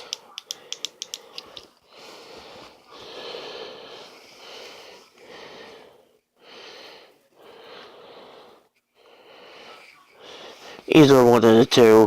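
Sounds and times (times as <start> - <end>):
person breathing wheezily: 0.0 - 10.9.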